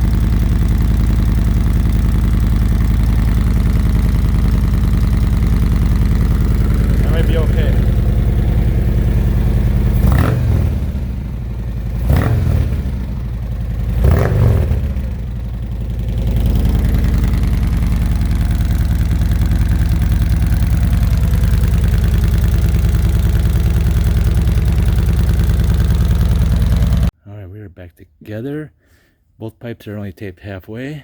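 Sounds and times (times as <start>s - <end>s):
motorcycle engine idling: 0.0s - 27.1s
motorcycle engine revving: 0.0s - 27.1s.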